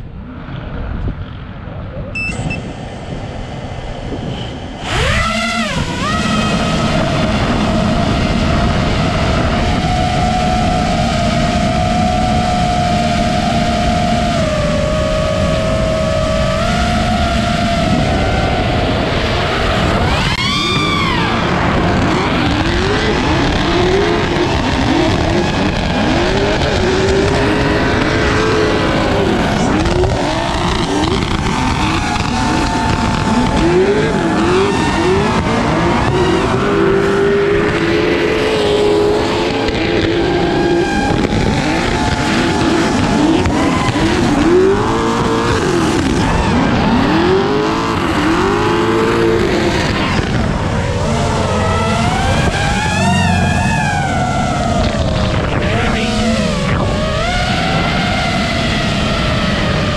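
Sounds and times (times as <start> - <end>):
car engines revving: 0.0 - 59.9
steady rushing noise: 0.0 - 59.9.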